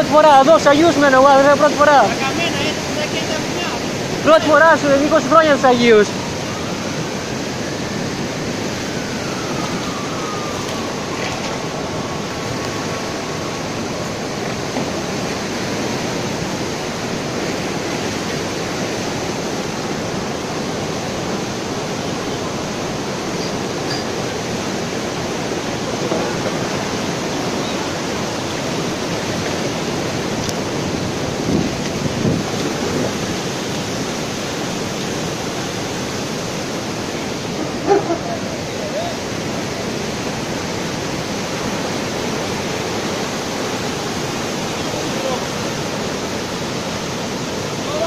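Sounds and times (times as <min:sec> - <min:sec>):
floodwater rushing: 0:00.0 - 0:48.0.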